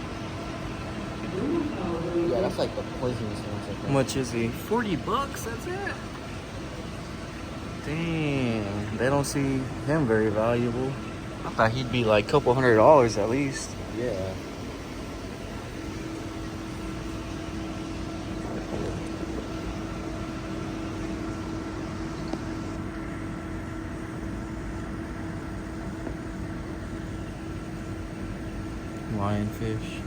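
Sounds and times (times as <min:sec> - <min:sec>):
mechanical hum and air rush: 0:00.0 - 0:30.0.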